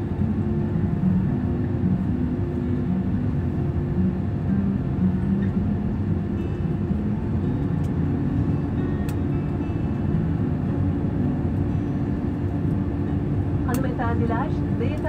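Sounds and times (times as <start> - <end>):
aircraft cabin rumble taxiing: 0.0 - 15.0
jet engines humming at idle: 0.0 - 15.0.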